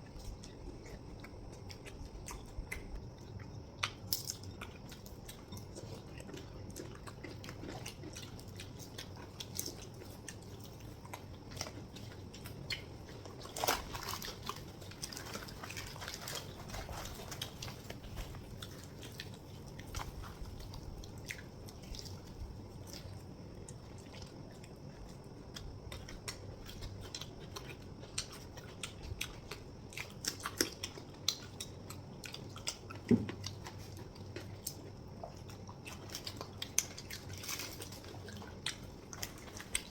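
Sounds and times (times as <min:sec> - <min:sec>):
bites and wet chewing: 0:00.0 - 0:39.9
steady low hum: 0:00.0 - 0:39.9.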